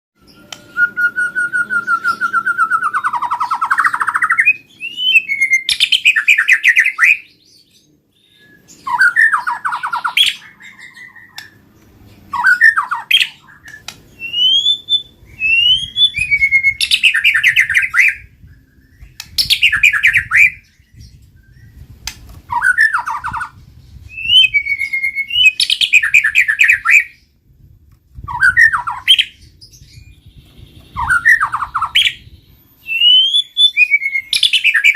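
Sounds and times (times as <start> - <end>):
bird singing whistles and trills: 0.2 - 11.6, 12.2 - 27.5, 28.1 - 34.9.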